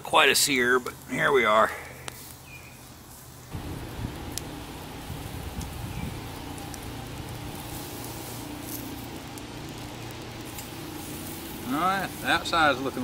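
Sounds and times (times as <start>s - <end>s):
campfire crackles: 0.0s - 13.0s
meat sizzling on grill: 0.0s - 13.0s.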